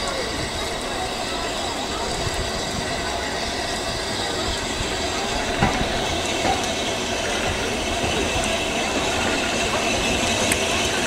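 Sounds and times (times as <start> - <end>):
steam locomotive hiss and rumble: 0.0 - 11.0.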